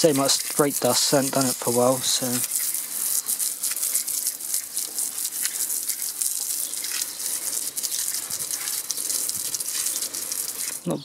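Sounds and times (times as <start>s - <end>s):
hose spray hissing on wheel: 0.0s - 11.0s.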